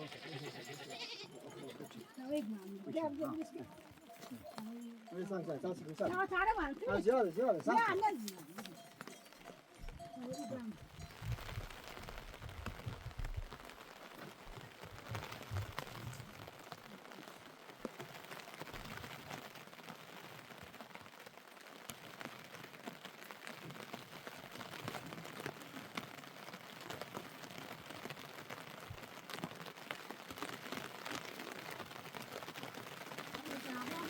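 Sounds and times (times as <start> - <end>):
rain falling: 0.0 - 34.0
raindrops ticking on a surface: 0.8 - 34.0.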